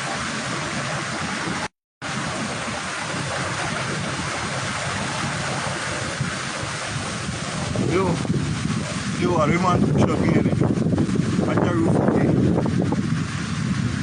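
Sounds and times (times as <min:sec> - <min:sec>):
hurricane wind and rain rushing: 0:00.0 - 0:14.0.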